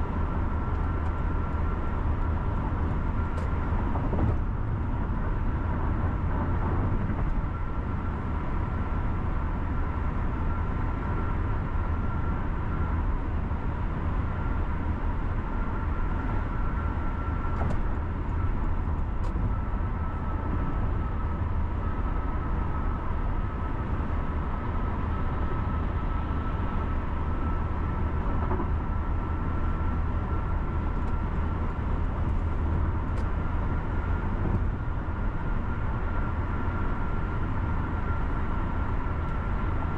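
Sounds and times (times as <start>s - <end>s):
car engine and tyre rumble: 0.0s - 39.9s
thin steady whine: 0.0s - 39.9s.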